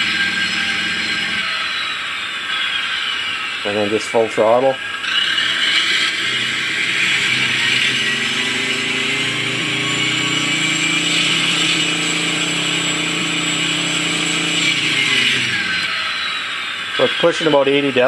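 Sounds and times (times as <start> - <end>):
simulated tank engine drone: 0.0 - 3.0, 3.6 - 18.0.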